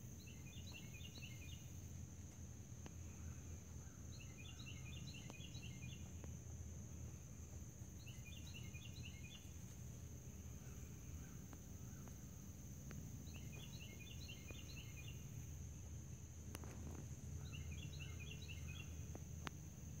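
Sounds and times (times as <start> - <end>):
low background rumble: 0.0 - 20.0
songbird chirping: 0.0 - 20.0.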